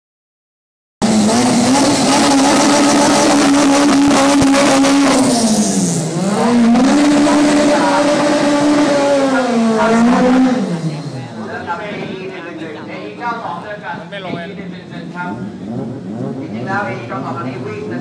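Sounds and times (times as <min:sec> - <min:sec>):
car engine revving: 0:01.0 - 0:12.8, 0:13.6 - 0:18.0.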